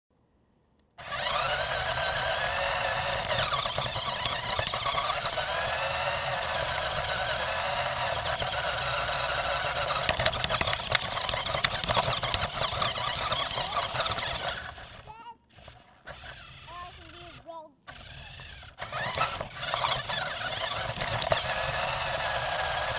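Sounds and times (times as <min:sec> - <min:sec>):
tyres rumbling on pavement: 0:01.0 - 0:17.3, 0:17.9 - 0:22.9
toy truck motor whining: 0:01.0 - 0:22.9.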